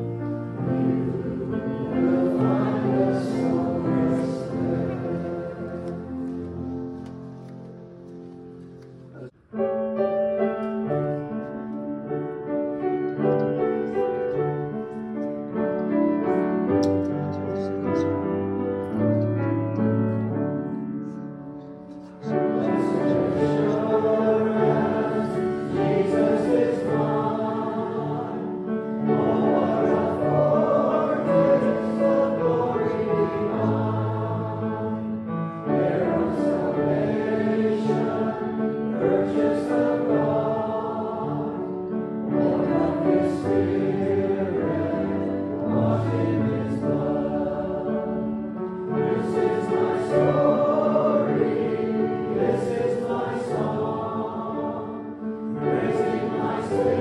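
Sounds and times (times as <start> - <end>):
congregation singing a hymn: 0.0 - 9.4, 10.3 - 57.0.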